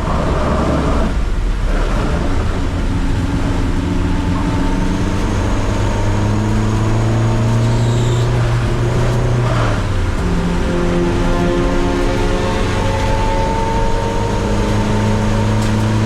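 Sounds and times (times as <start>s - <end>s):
car engine accelerating: 0.0s - 16.0s
wet road spray and rain hiss: 0.0s - 16.0s.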